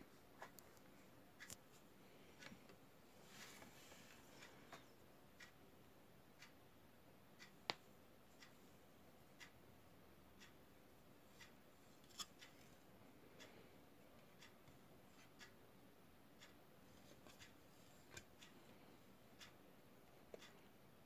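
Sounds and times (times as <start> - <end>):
clock ticking faintly: 0.4 - 21.0.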